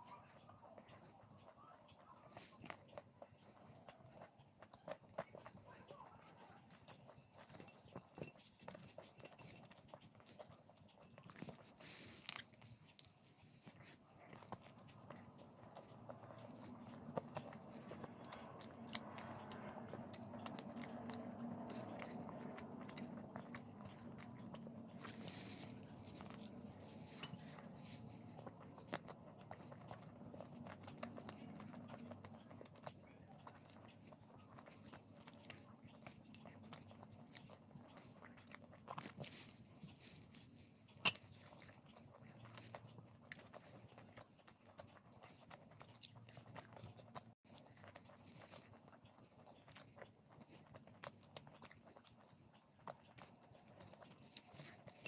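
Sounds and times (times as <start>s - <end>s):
person chewing food: 0.0s - 55.0s
wet mouth sounds: 7.1s - 55.0s.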